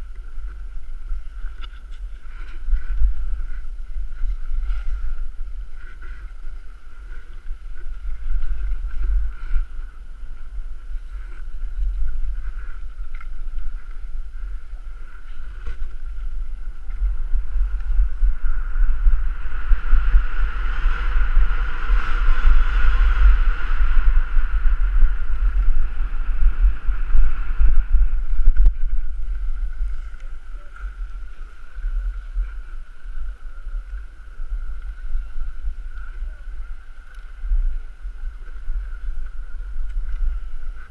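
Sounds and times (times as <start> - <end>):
skis sliding over packed snow: 0.0 - 40.9
wind buffeting microphone: 0.0 - 40.9.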